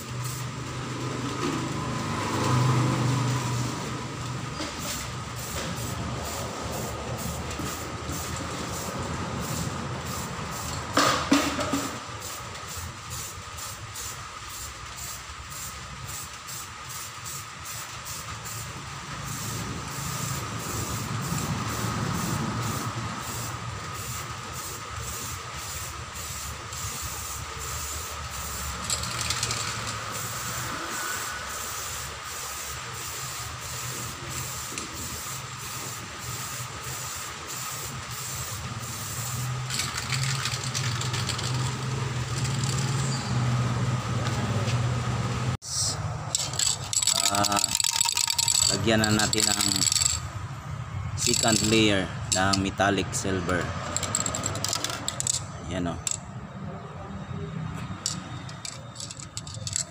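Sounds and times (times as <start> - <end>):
spray paint can hissing: 0.0 - 1.1, 4.5 - 43.2, 45.8 - 50.3, 51.2 - 52.8, 53.8 - 56.2, 58.0 - 59.9
steady mechanical hum: 0.0 - 59.9.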